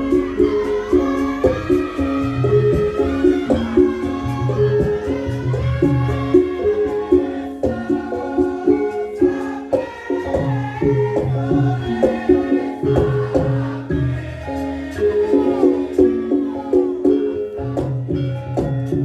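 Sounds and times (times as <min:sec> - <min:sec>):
person singing: 0:00.0 - 0:18.7
gamelan music: 0:00.0 - 0:19.0.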